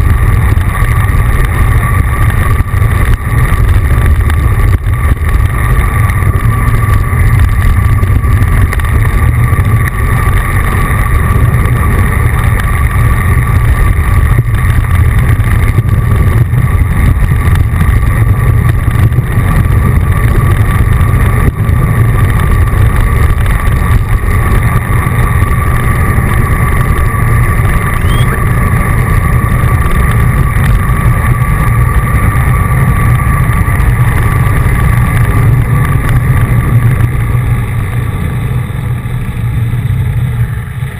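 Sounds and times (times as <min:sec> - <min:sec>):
faint steady whine: 0:00.0 - 0:40.9
wind buffeting microphone: 0:00.0 - 0:40.9.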